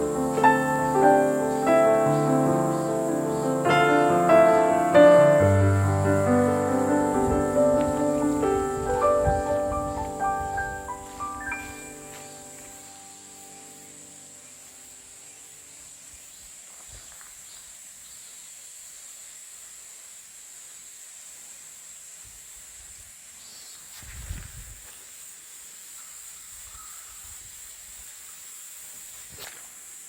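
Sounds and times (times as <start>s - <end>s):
insects buzzing: 0.0s - 30.0s.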